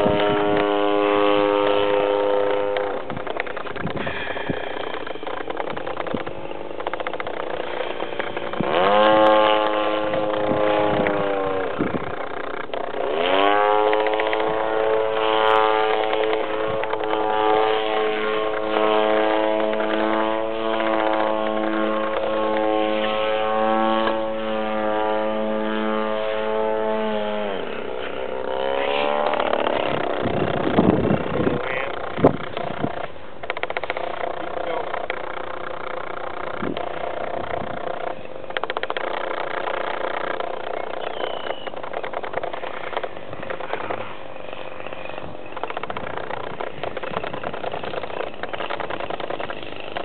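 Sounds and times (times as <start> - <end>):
model plane engine: 0.0 - 50.0.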